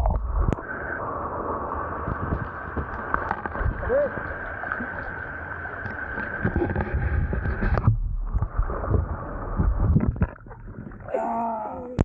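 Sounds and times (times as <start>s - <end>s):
muffled water sloshing underwater: 0.0s - 12.0s.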